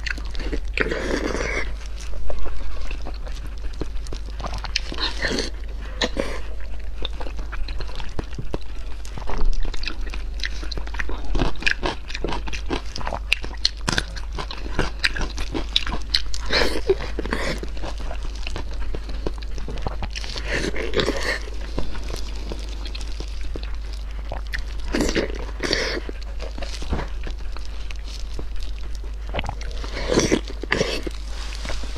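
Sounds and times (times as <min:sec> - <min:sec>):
chewing and wet mouth sounds: 0:00.0 - 0:31.9.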